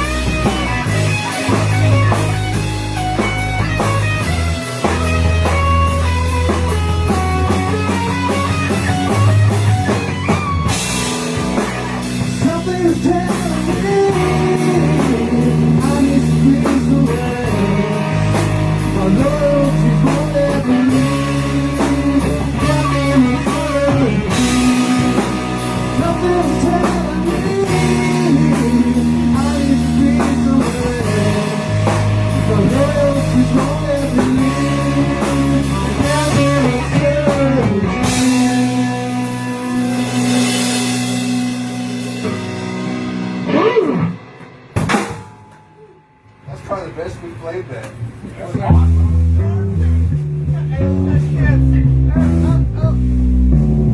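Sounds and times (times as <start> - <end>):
rock band playing: 0.0 - 53.9.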